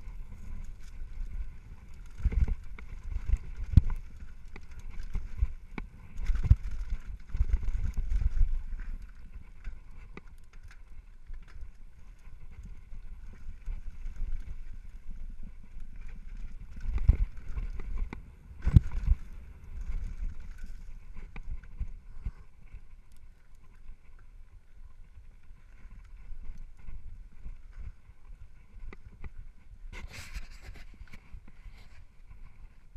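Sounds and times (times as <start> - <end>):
bike rattling: 0.0 - 30.3
wind and ground rumble: 0.0 - 32.9.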